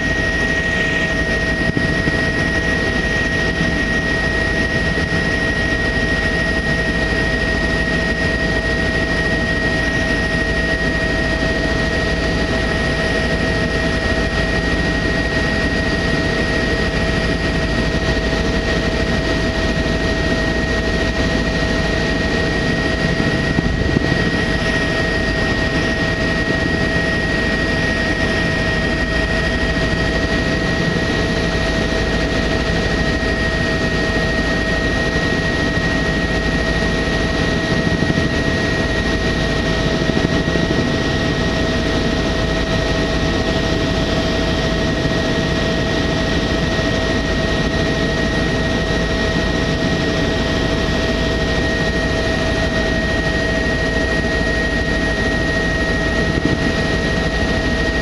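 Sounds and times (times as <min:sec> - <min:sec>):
helicopter rotor and turbine drone: 0:00.0 - 0:58.0
steady whining tones: 0:00.0 - 0:58.0.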